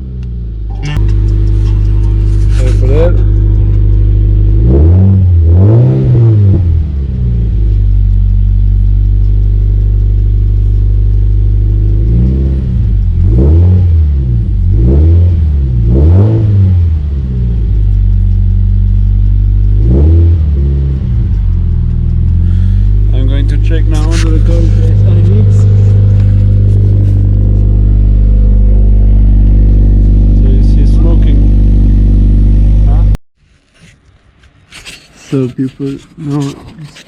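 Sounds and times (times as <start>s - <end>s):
car engine idling and revving: 0.0s - 33.2s, 33.8s - 37.0s.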